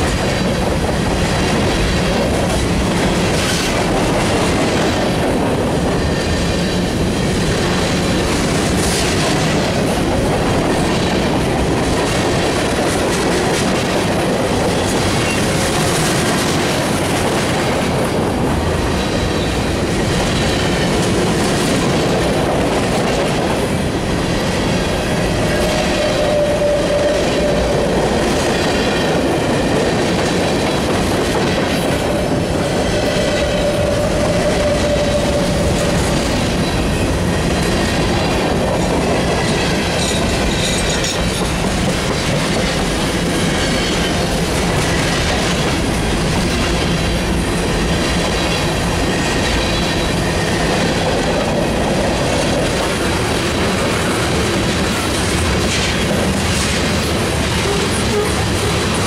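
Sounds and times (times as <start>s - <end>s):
freight car wheels rumbling and clacking: 0.0s - 59.0s.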